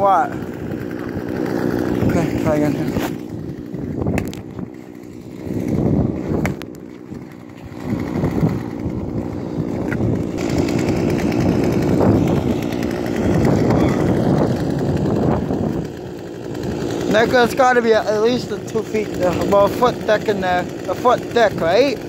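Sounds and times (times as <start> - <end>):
chainsaw engine running: 0.0 - 22.0.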